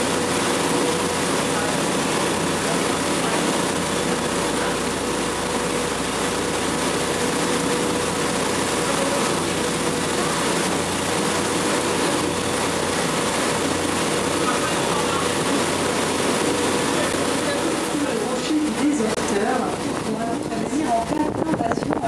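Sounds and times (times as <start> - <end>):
boat engine running: 0.0 - 22.0
water rushing along hull: 0.0 - 22.0.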